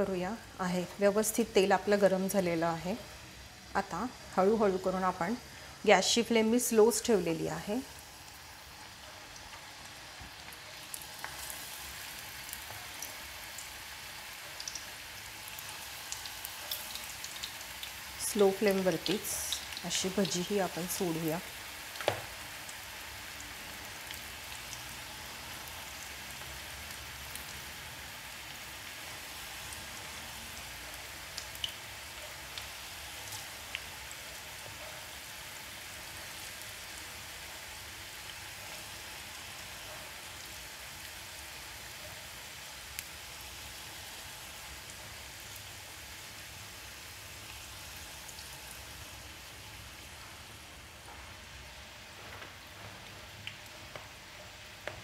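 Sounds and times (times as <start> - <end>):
deep-frying oil sizzling: 0.0 - 55.0.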